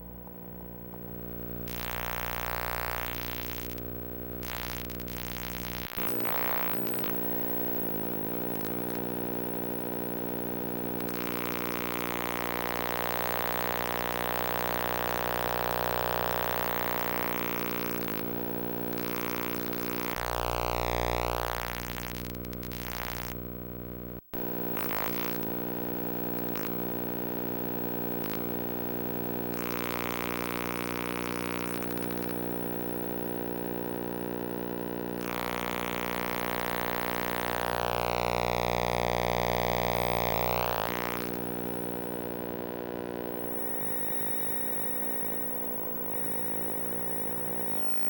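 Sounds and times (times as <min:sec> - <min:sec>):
buzzing synthesizer drone: 0:04.4 - 0:48.0.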